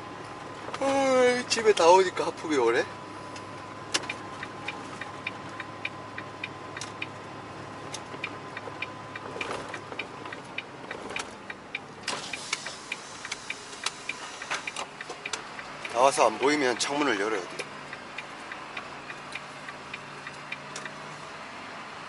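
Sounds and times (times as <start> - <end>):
truck cab hum: 0.0 - 22.0
turn signal clicking: 3.3 - 21.2.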